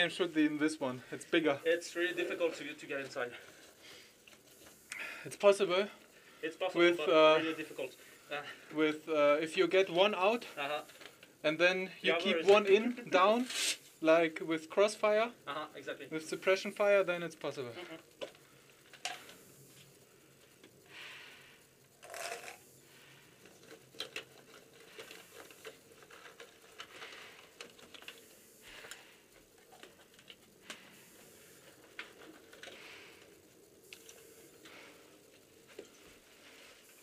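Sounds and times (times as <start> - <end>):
faint handling ticks and rustles: 0.0 - 37.0.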